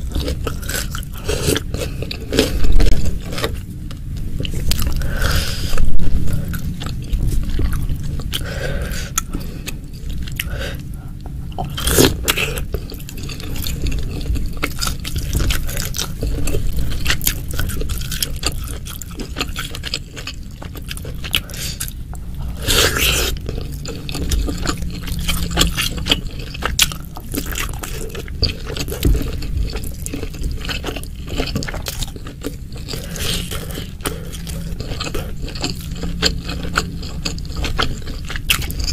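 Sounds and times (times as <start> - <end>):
chewing and crunching: 0.0 - 38.9.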